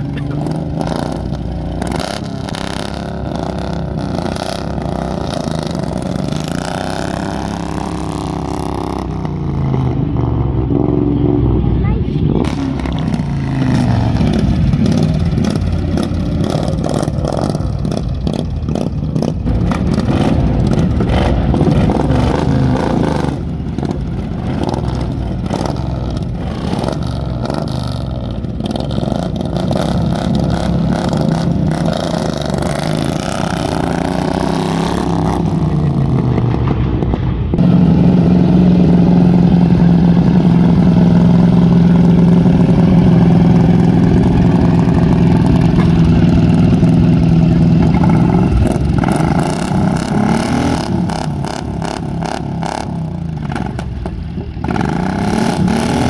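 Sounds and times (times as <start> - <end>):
engines running: 0.0 - 56.0
steady engine hum: 0.0 - 56.0.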